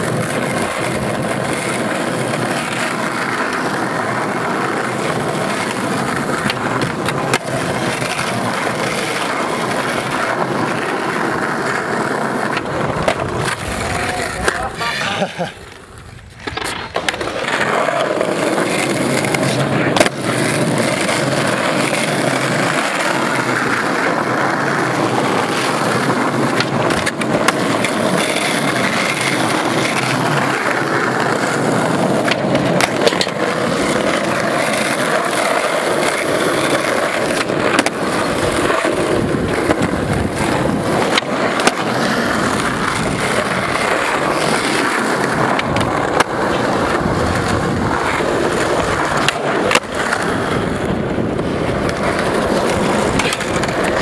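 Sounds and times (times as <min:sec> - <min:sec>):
skateboard clacking on ground: 0:00.0 - 0:54.0
skateboard wheels rolling on asphalt: 0:00.0 - 0:54.0.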